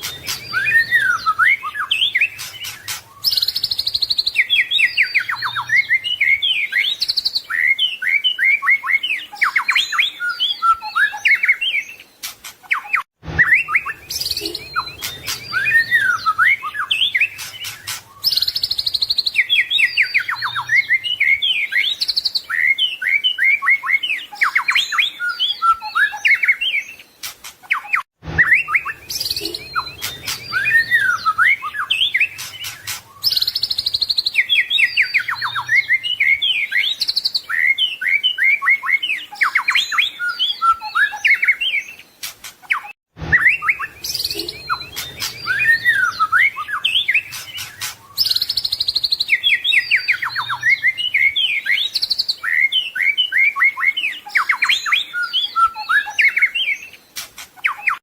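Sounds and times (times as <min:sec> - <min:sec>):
bird singing whistled phrases: 0:00.0 - 0:12.1, 0:12.7 - 0:27.0, 0:27.7 - 0:57.0, 0:57.6 - 0:58.0.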